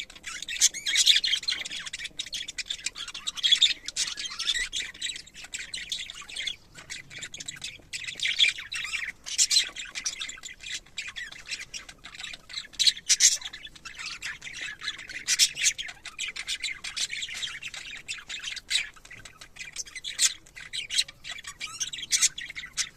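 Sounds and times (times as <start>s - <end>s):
budgerigar squawks: 0.0s - 22.9s
budgerigars twittering: 0.0s - 22.9s.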